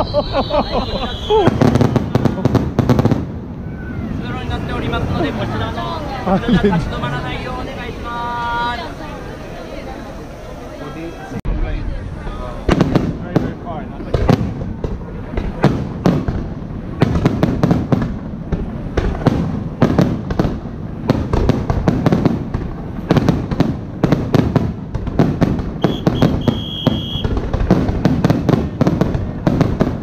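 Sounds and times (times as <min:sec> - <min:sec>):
fireworks bangs and crackles: 0:00.0 - 0:10.3, 0:11.5 - 0:30.0.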